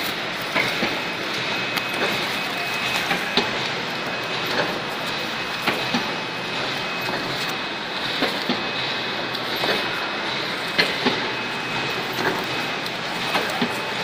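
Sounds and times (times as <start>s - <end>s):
die cutting machine humming: 0.0s - 14.0s.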